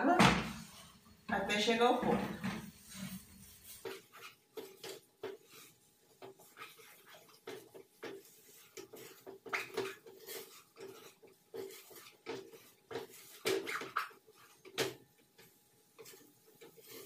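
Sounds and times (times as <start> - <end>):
wooden spoon scraping pot: 0.4 - 17.0.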